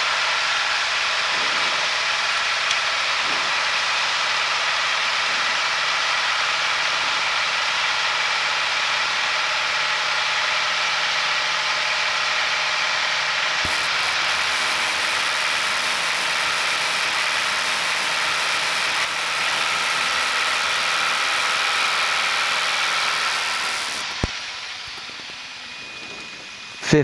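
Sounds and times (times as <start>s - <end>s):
airplane engine and airflow noise: 0.0s - 27.0s.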